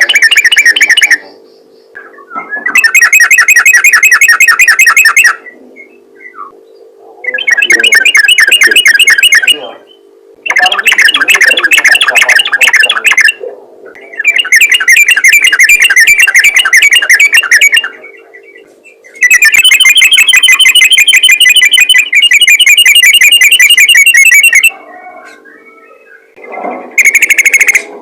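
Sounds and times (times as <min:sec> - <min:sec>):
bird singing rapid repeated notes: 0:00.0 - 0:24.8, 0:25.5 - 0:28.0.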